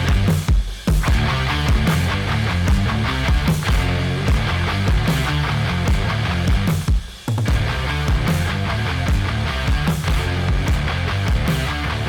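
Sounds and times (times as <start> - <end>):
rock music with fast drum beat: 0.0 - 12.0.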